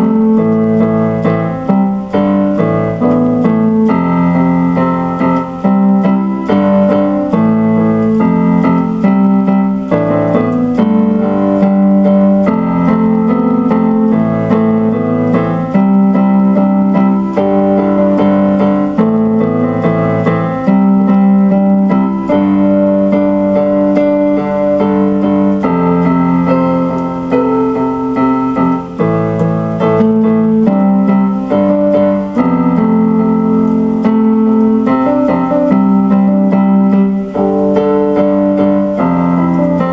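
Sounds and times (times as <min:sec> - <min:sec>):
piano playing held chords: 0:00.0 - 0:39.9.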